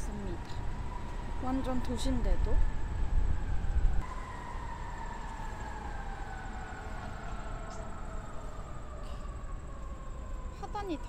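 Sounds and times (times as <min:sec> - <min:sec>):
city traffic rumble: 0:00.0 - 0:11.0
siren falling in pitch: 0:00.8 - 0:11.0.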